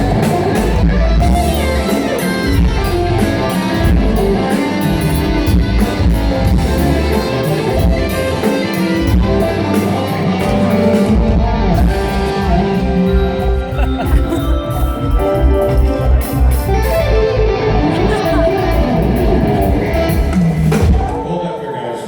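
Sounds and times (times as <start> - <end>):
electric guitar: 0.0 - 21.2
live rock band: 0.0 - 21.2.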